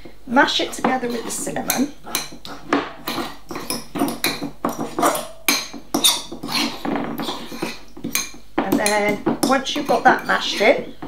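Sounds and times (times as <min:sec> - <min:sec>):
cutlery clinking and scraping bowl: 0:00.4 - 0:11.0.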